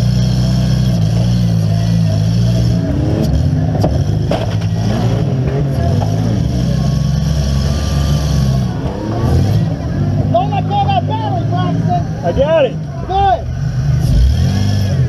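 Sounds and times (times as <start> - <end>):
van engine revving: 0.0 - 15.0.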